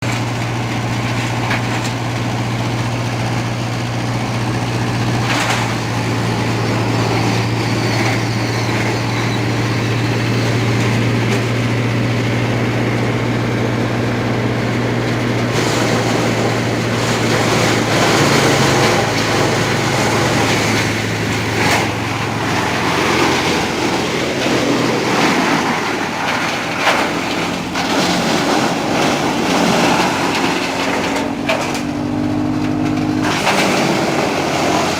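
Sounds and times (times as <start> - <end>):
tractor diesel engine running: 0.0 - 34.9
wood chipper cracking and crunching: 0.0 - 34.9.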